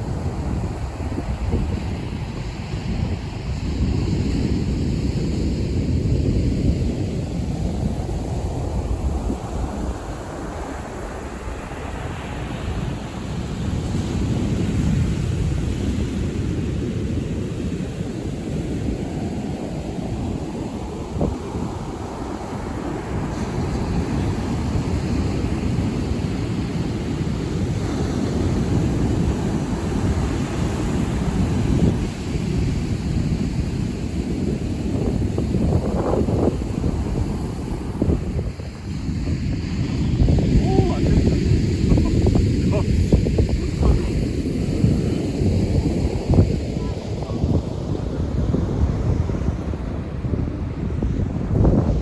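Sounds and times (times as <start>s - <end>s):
sea waves breaking on shore: 0.0s - 52.0s
wind rumbling on microphone: 0.0s - 52.0s.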